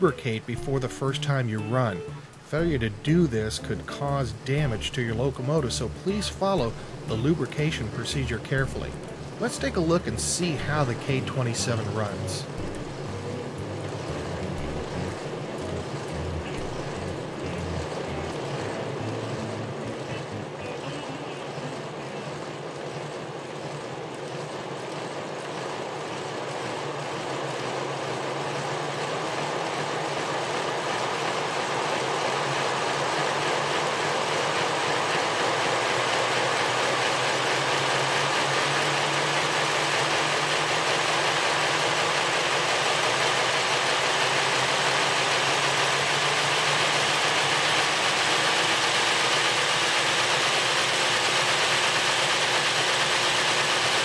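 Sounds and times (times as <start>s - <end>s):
electric motor and gearbox whirring: 0.0s - 54.0s.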